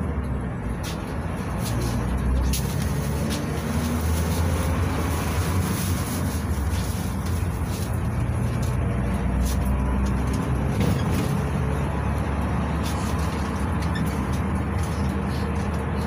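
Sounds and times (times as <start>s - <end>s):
minibus cabin rumble: 0.0s - 16.0s.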